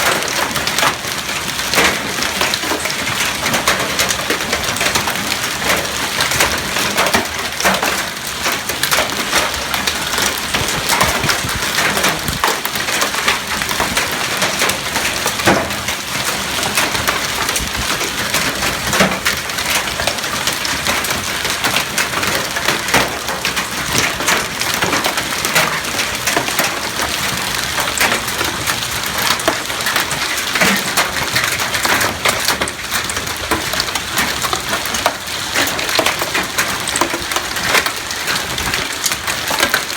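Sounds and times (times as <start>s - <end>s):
hail clattering: 0.0s - 39.9s.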